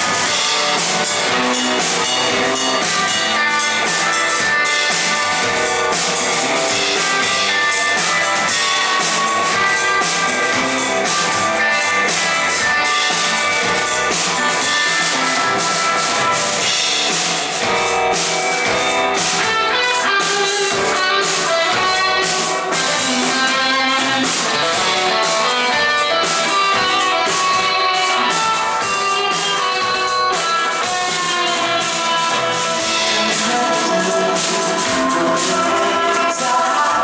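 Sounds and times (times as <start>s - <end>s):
drum kit: 0.0s - 37.0s
electric guitars strummed and picked: 0.0s - 37.0s.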